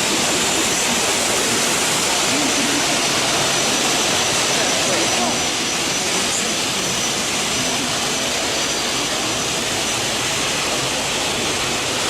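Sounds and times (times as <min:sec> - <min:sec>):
high machine whine: 0:00.0 - 0:12.0
machine rushing noise: 0:00.0 - 0:12.0.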